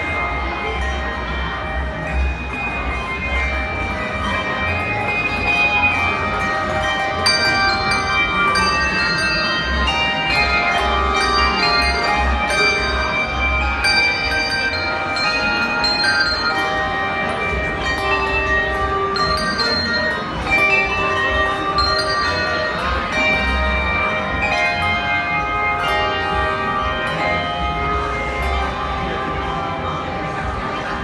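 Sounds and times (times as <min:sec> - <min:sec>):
handbell choir playing: 0:00.0 - 0:31.0.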